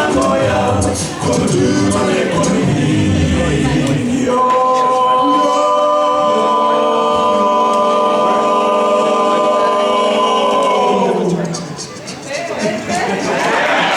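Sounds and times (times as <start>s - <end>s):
men's choir holding a chord: 0.0s - 11.4s.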